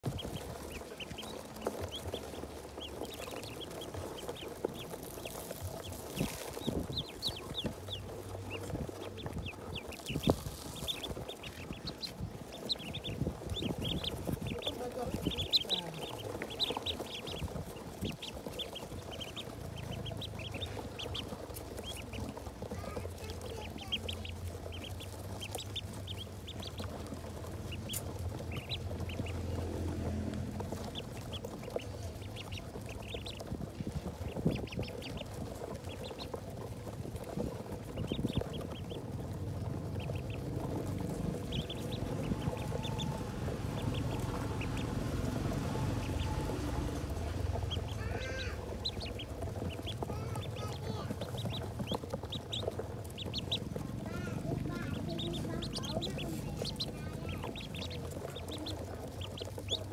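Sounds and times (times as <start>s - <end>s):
ducklings peeping: 0.0s - 59.9s
low steady hum: 0.0s - 59.9s.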